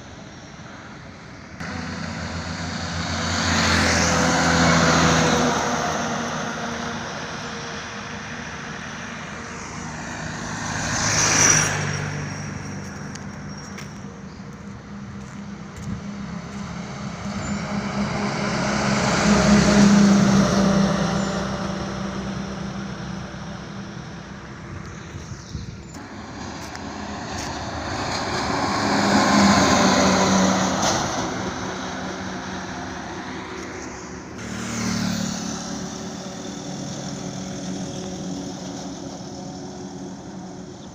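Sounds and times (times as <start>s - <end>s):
low engine hum: 0.0s - 40.9s
vehicles passing on highway: 0.0s - 40.9s.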